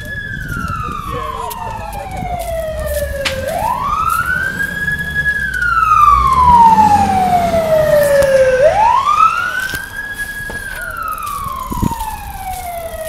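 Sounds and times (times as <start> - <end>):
fire engine siren wailing: 0.0 - 13.0
low engine rumble: 0.0 - 13.0.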